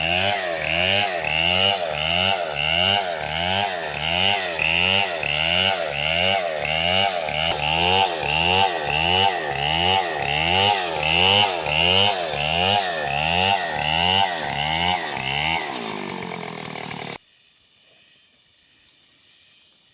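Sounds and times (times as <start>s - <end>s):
chainsaw engine revving: 0.0s - 17.2s.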